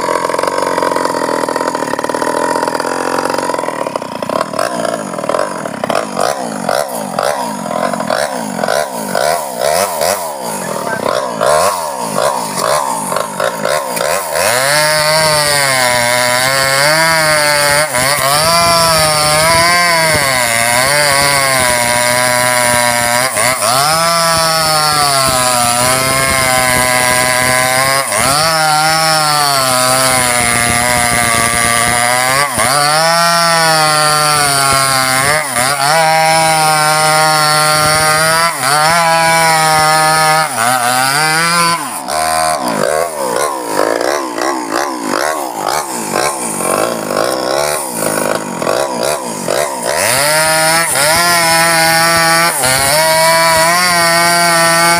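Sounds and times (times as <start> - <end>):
chainsaw cutting log: 0.0 - 54.9.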